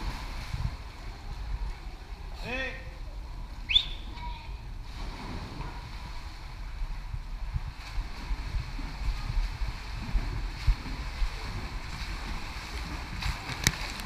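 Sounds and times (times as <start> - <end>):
low rumble: 0.0 - 14.0
water sounds: 0.0 - 14.0.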